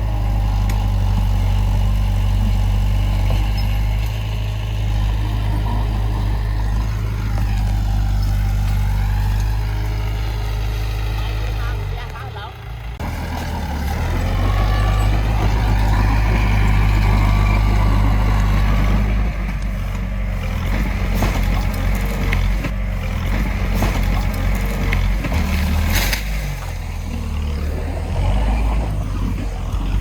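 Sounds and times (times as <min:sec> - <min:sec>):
diesel machinery engine running: 0:00.0 - 0:30.0.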